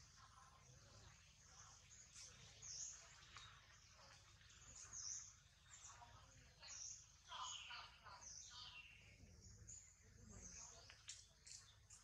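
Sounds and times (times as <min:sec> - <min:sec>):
faint high bird-like chirps: 0:00.0 - 0:12.0.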